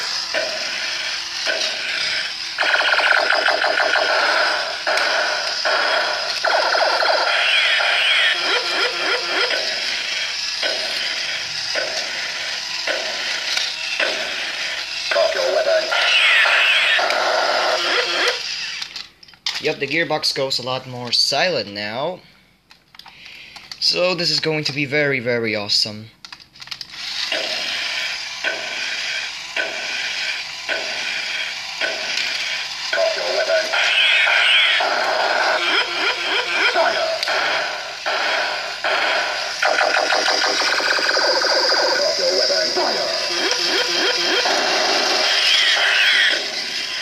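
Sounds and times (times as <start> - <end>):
toy robot motor whirring: 0.0 - 19.6, 26.6 - 47.0
toy robot stepping: 0.0 - 19.7, 26.6 - 47.0.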